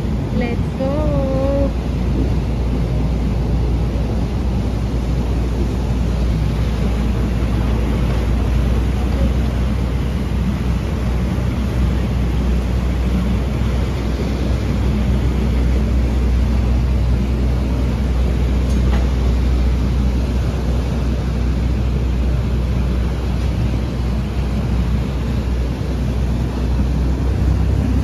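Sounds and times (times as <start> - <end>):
ferry engines rumbling: 0.0 - 28.0
propeller wash churning water: 0.0 - 28.0.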